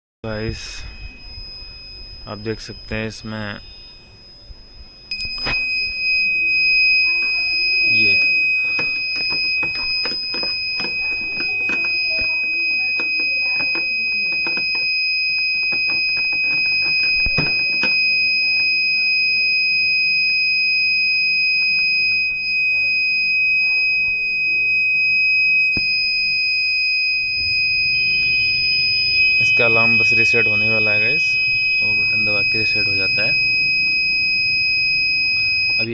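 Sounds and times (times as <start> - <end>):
high-pitched alarm tone: 0.2 - 35.9.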